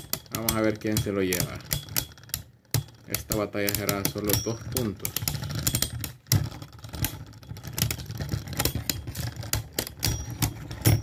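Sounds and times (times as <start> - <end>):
spinning tops clicking and knocking: 0.0 - 11.0.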